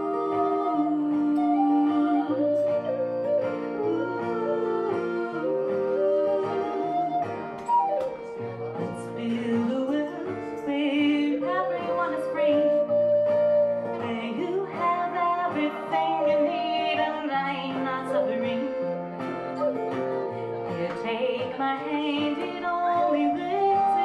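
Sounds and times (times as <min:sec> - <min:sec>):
plucked guitar: 0:00.0 - 0:24.0
wooden flute melody: 0:00.0 - 0:24.0.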